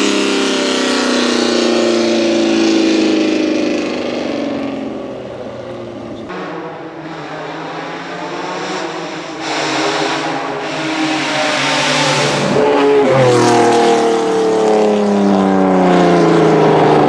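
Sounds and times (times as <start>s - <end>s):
engine running steadily: 0.0s - 17.0s
racing car engine passing: 0.0s - 17.0s.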